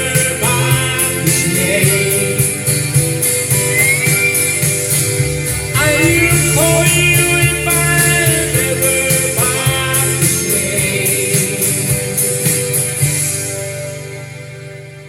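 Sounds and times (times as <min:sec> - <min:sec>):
folk-country song with guitars: 0:00.0 - 0:15.0.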